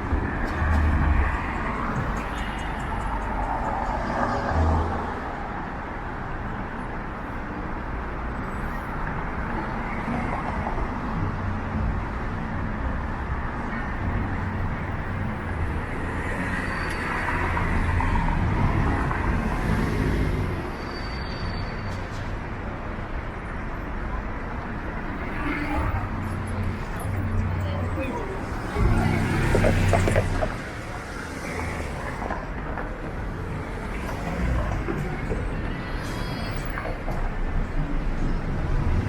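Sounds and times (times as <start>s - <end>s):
low rumble of traffic: 0.0s - 39.0s.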